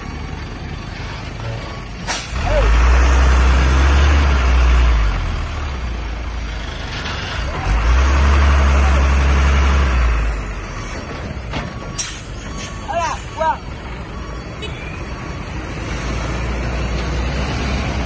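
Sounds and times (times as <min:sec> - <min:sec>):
truck diesel engine labouring: 0:00.0 - 0:18.0.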